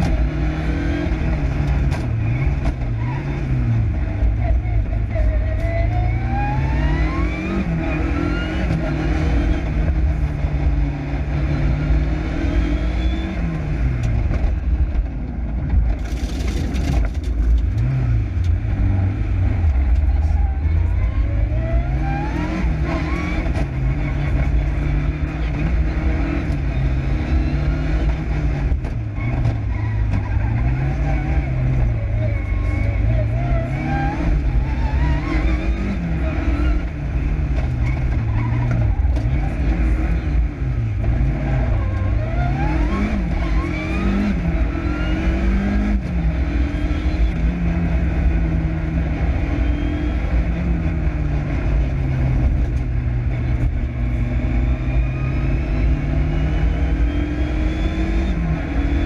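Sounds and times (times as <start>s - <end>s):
rally car engine accelerating: 0.0s - 59.0s.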